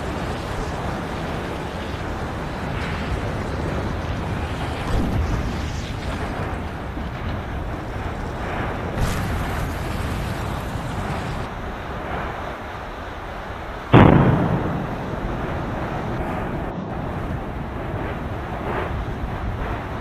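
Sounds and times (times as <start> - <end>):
rushing rumble of eruption: 0.0 - 20.0
steam explosion blasts: 0.0 - 20.0.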